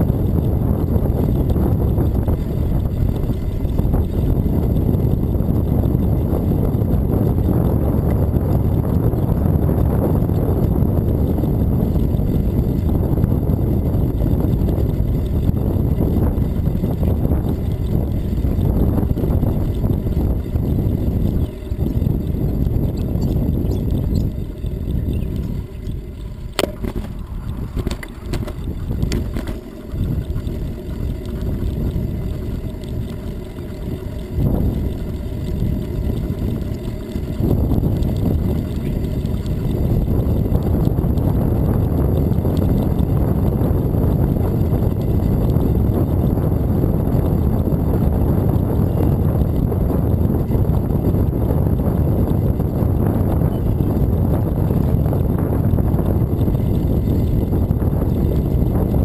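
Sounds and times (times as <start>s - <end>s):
tyre noise on pavement: 0.0s - 59.0s
wind buffeting microphone: 0.0s - 59.0s.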